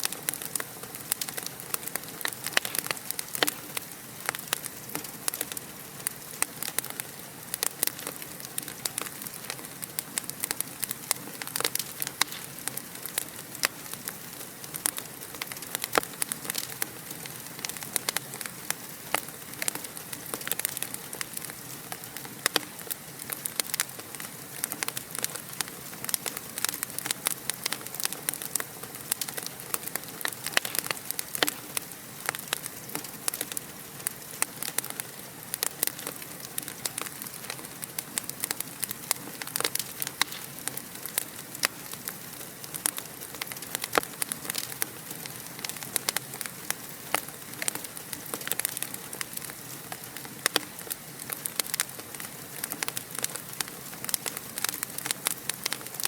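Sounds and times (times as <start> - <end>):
steady hiss: 0.0 - 56.0
wood fire crackling: 0.0 - 56.0.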